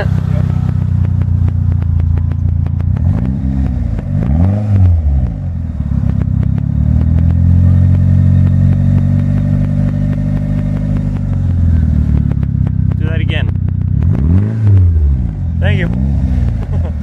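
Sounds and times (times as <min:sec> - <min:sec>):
car engine idling with knock: 0:00.0 - 0:17.0.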